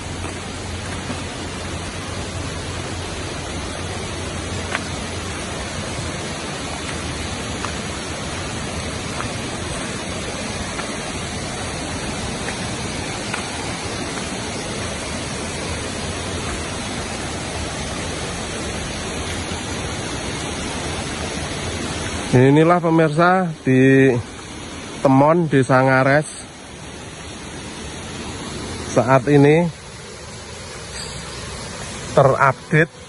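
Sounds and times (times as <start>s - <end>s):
river rushing over stones: 0.0s - 33.0s.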